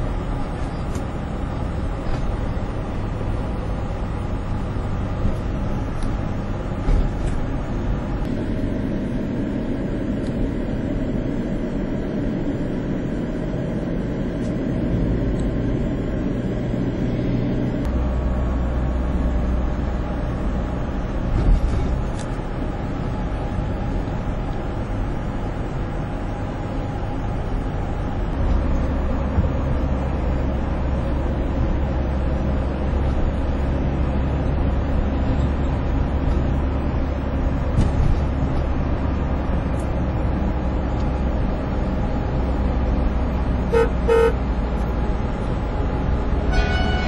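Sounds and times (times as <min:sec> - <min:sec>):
deep engine drone: 0:00.0 - 0:47.0
vehicle engines and tyres: 0:00.0 - 0:47.0.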